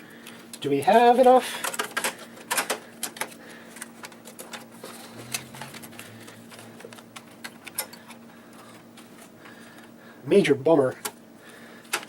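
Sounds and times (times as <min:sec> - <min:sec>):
faint steady hum: 0:00.0 - 0:12.0
cables and plastic parts clicking: 0:00.2 - 0:09.9.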